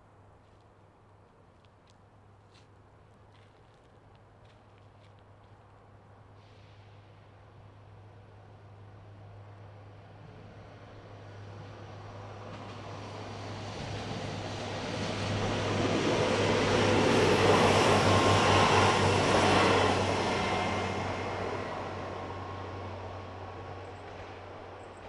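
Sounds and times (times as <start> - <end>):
diesel railbus passing: 4.6 - 25.0.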